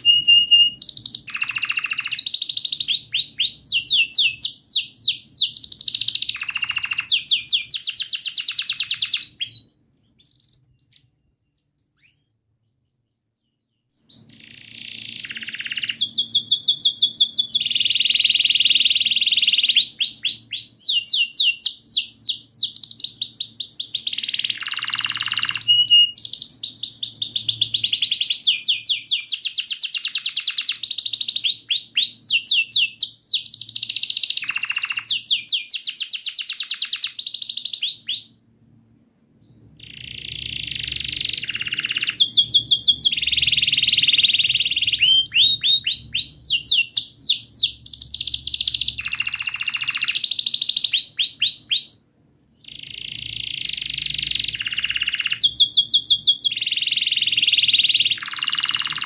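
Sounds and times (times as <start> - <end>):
canary singing trills: 0.0 - 38.4, 39.5 - 59.0.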